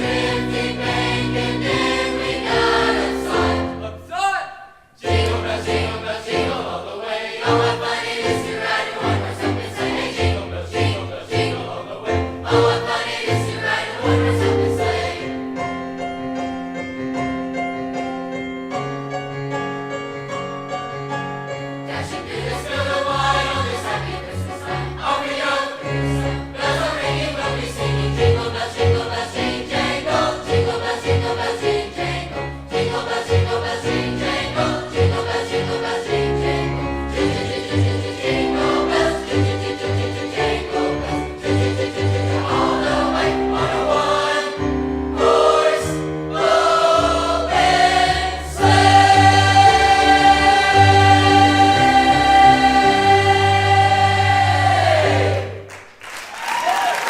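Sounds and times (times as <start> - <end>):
choir singing: 0.0 - 4.0, 5.0 - 15.8, 21.8 - 55.8.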